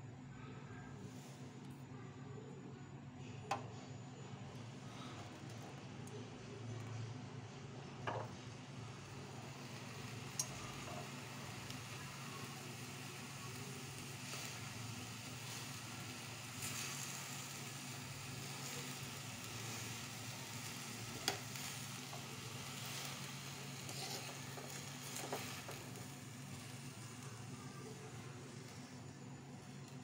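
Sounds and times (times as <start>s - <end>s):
ginger sizzling over gas flame: 4.4s - 30.0s.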